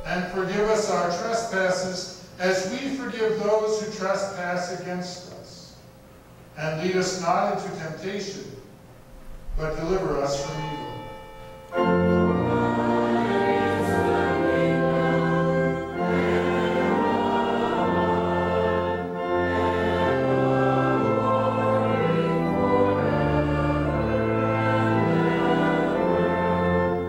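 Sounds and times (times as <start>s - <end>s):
congregation singing: 0.0s - 5.7s, 9.6s - 27.0s
church organ playing hymn: 0.0s - 5.8s, 6.6s - 27.0s.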